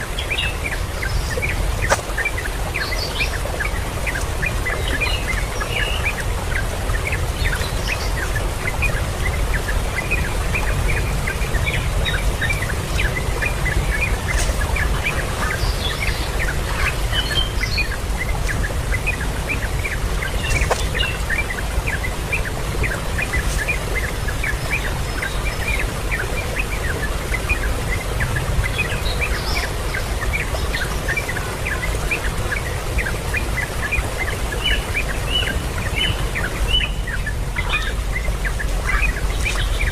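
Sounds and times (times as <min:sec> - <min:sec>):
birds chirping: 0:00.0 - 0:39.9
steady low rumble: 0:00.0 - 0:39.9.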